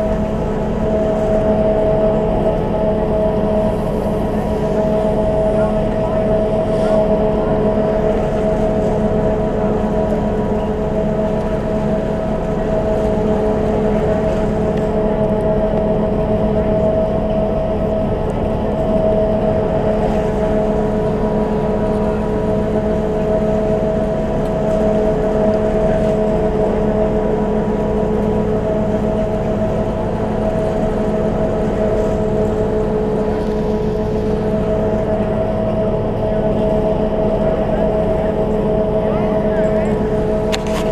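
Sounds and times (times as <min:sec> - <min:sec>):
chairlift mechanical whine: 0:00.0 - 0:40.9
low hum: 0:00.0 - 0:40.9.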